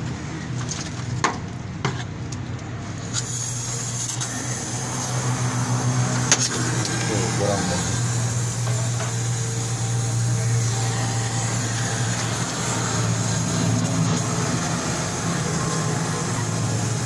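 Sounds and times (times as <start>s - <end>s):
welding torch flame hissing: 3.1s - 17.0s.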